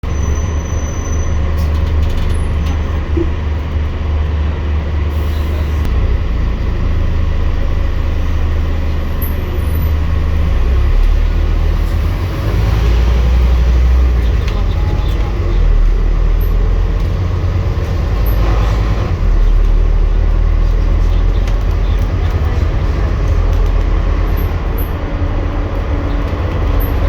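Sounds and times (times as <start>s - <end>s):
bus diesel engine droning: 0.0s - 27.0s.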